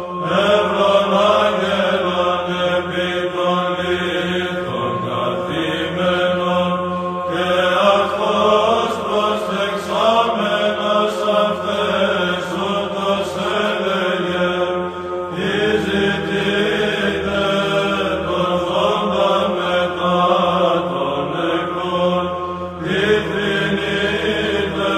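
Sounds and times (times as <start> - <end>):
held drone note: 0.0 - 24.9
voices chanting a melody: 0.0 - 24.9.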